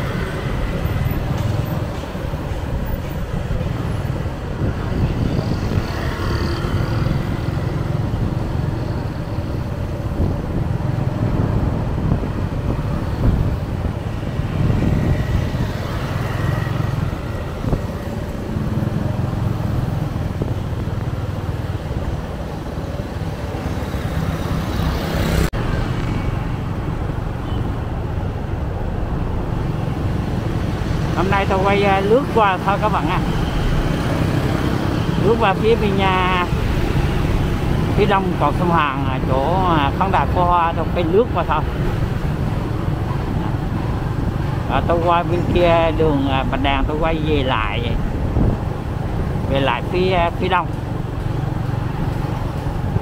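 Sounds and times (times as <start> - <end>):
low traffic rumble: 0.0 - 53.0
motorbikes and cars passing: 0.0 - 53.0.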